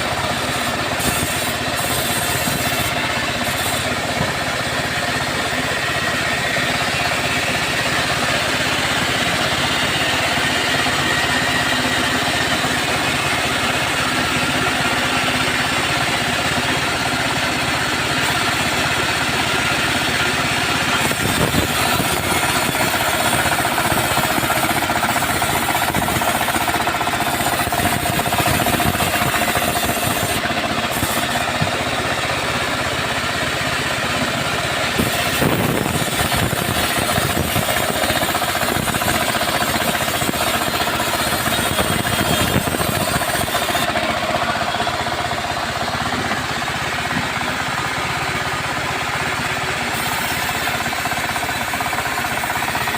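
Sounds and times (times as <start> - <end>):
engine drone: 0.0 - 52.9
saw rattling chatter: 0.0 - 52.9.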